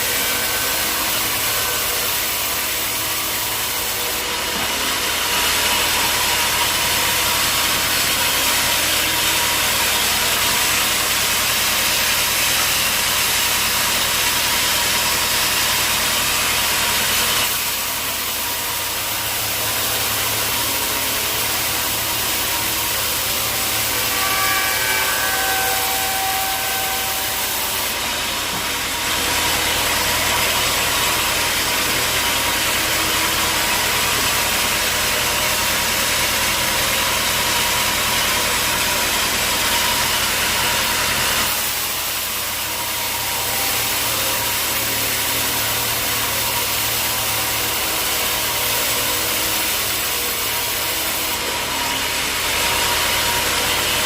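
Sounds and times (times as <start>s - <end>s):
saw blade hiss: 0.0s - 54.0s.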